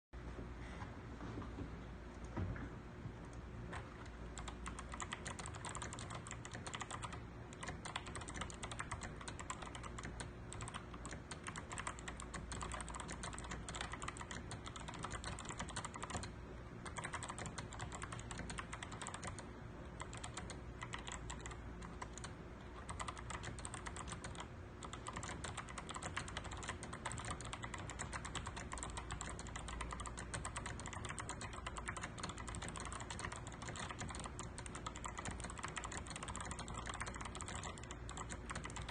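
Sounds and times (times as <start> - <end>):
mechanical keyboard typing: 3.7 - 38.9.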